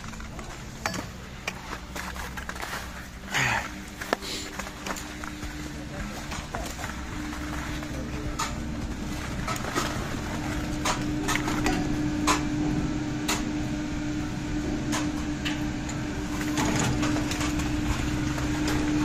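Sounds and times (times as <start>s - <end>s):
chairlift machinery humming: 0.0s - 19.0s.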